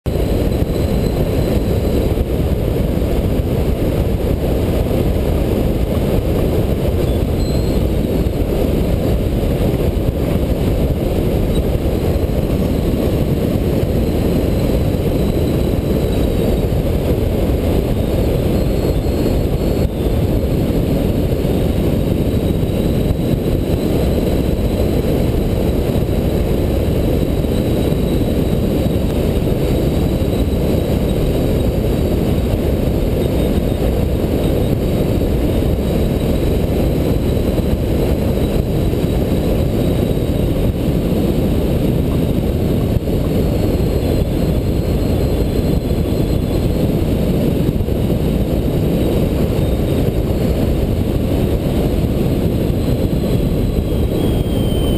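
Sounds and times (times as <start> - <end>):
wind noise on microphone: 0.0 - 54.9.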